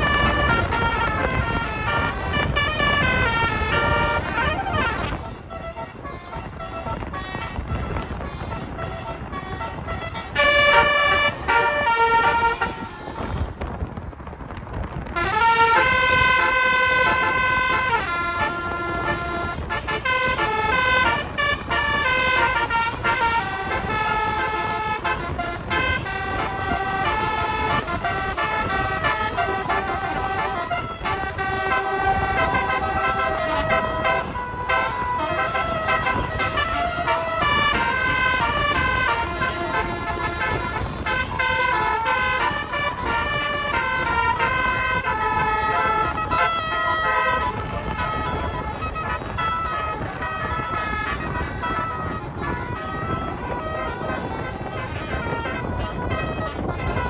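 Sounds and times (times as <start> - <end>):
multi-tone bus air horn melody: 0.0 - 57.0.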